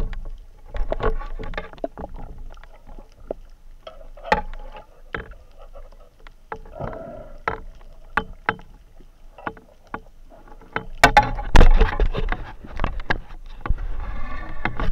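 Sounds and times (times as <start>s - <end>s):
rush of moving water: 0.0s - 14.9s
underwater clicks and knocks: 0.0s - 14.9s.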